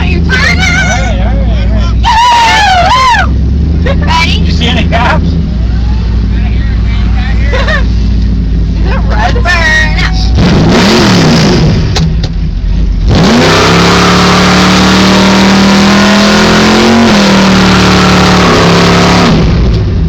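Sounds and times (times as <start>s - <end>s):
loud car engine revving: 0.0s - 20.0s.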